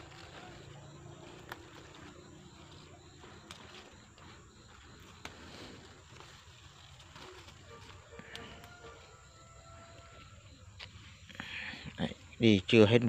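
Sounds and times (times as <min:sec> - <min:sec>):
bean pods snapping: 0:00.0 - 0:11.4
rustling of vine leaves: 0:00.0 - 0:13.0.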